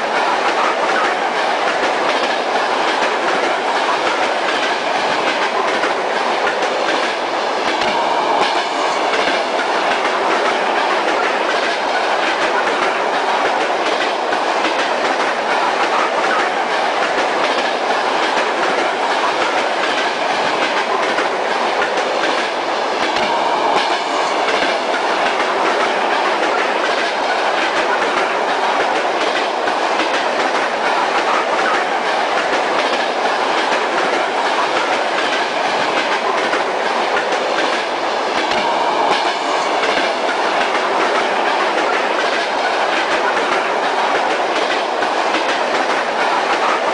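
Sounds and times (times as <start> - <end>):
train wheels on rails: 0.0 - 46.9.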